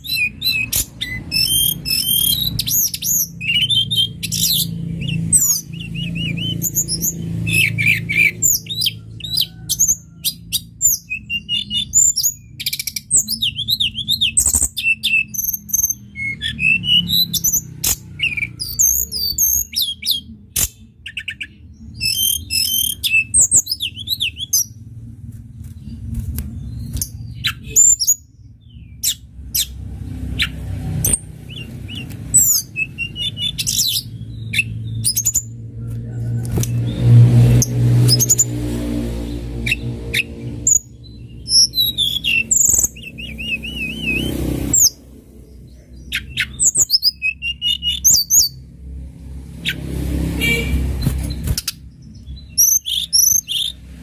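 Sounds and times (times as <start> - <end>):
songbird singing: 0.0 - 24.9, 25.6 - 48.7, 49.6 - 54.0.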